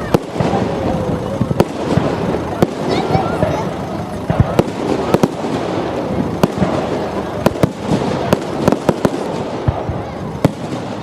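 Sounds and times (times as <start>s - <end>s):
continuous background noise: 0.0s - 11.0s
fireworks bangs and cracks: 0.0s - 11.0s.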